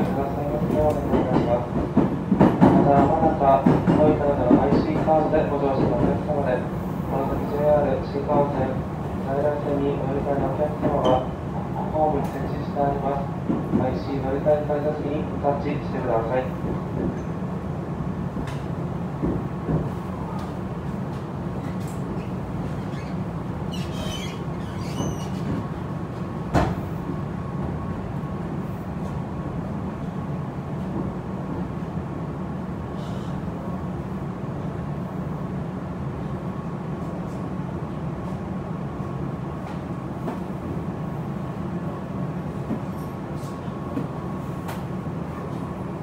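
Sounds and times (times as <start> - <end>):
electric train rumbling: 0.0 - 46.0.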